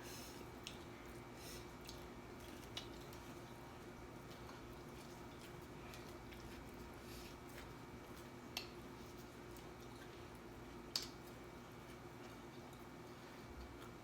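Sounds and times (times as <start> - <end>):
steady low hum: 0.0 - 14.0
faint chewing: 0.1 - 14.0.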